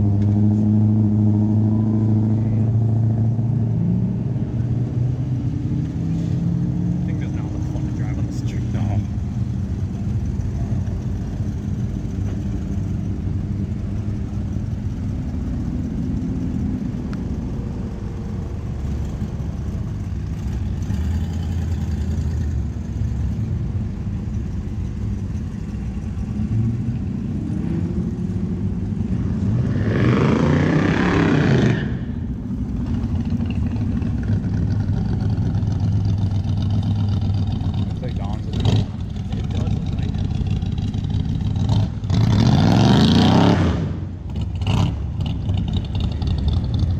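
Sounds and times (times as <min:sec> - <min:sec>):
loud engine and exhaust burst: 0:00.0 - 0:46.9
vehicles driving past: 0:00.0 - 0:46.9.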